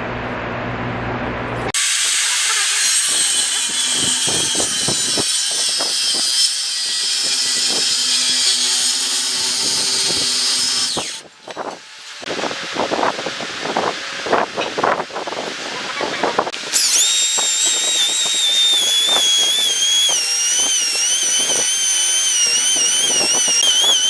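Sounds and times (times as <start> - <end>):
circular saw cutting log: 1.8 - 24.0.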